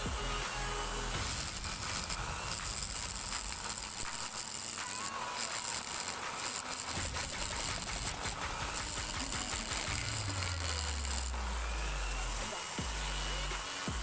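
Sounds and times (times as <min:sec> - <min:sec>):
rotary grinder whining: 0:00.0 - 0:14.0.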